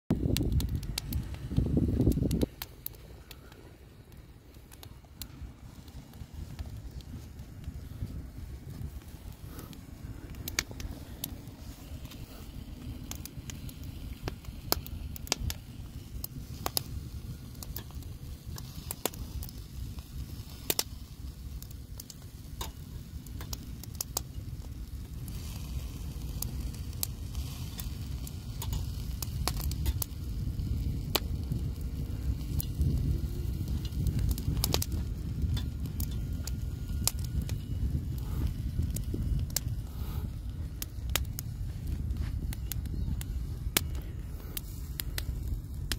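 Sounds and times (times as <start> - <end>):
steady low rumble: 0.1 - 45.9
wood fire crackling and popping: 0.1 - 45.9.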